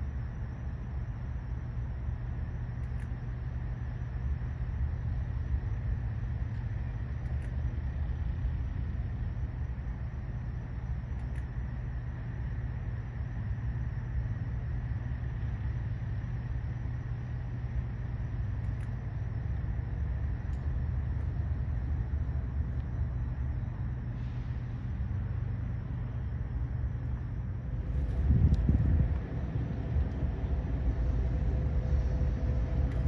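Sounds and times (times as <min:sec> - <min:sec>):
vehicle engine rumbling: 0:04.4 - 0:33.0.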